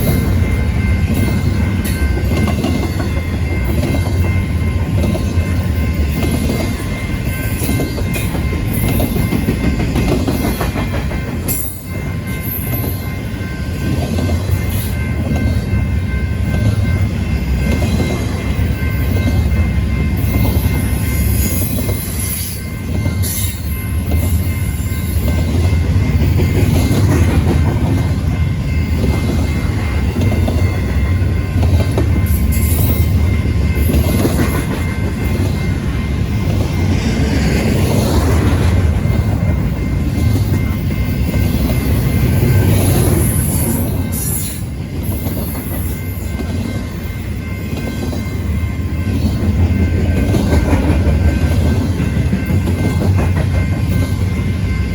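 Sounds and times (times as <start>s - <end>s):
high ringing tone: 0.0s - 54.9s
train rumbling past: 0.0s - 54.9s.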